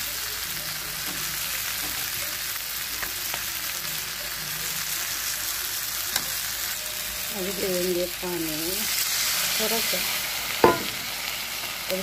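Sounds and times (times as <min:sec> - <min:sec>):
masala sizzling in pan: 0:00.0 - 0:12.0.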